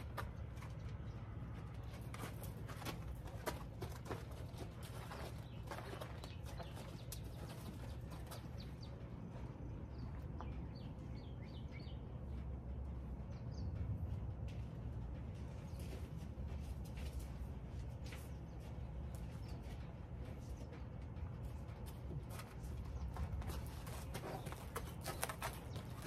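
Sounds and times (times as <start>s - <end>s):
hooves and footsteps on sand: 0.0s - 26.0s
low outdoor rumble: 0.0s - 26.0s.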